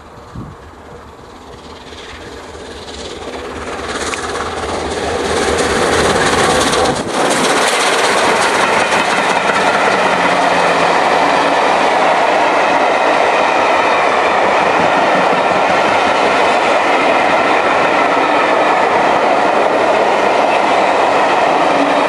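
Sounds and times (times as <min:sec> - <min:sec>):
steam train passing at speed: 0:00.0 - 0:22.0.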